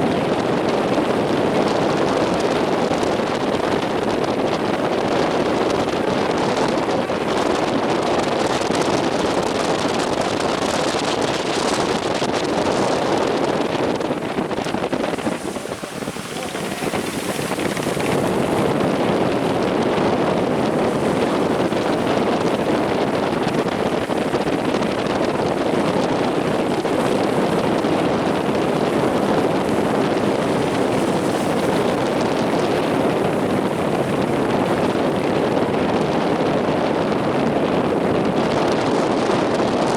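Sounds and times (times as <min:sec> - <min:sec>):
heavy surf: 0:00.0 - 0:39.9
wind on microphone: 0:00.0 - 0:39.9.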